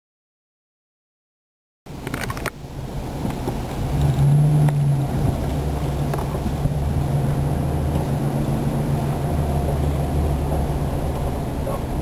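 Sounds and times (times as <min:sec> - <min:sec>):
car engine and road noise: 0:01.9 - 0:12.0.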